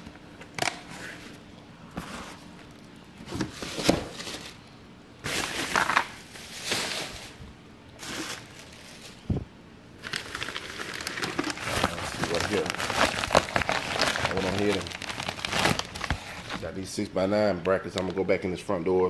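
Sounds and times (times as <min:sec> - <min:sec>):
plastic bags and cardboard rustling: 0:00.3 - 0:16.7.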